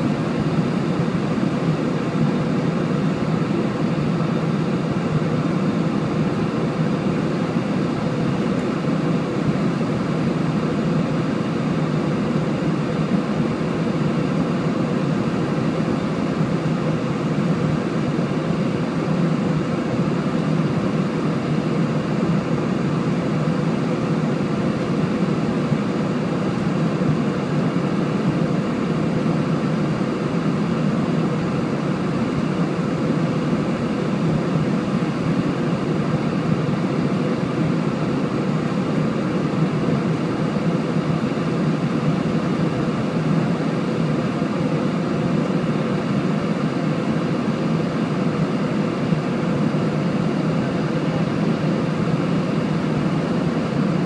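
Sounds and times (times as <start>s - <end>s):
aircraft engines droning: 0.0s - 54.0s.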